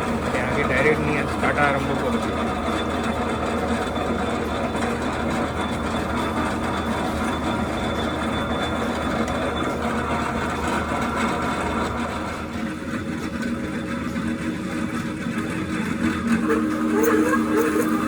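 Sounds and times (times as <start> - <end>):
pillar drill boring metal: 0.0 - 18.0.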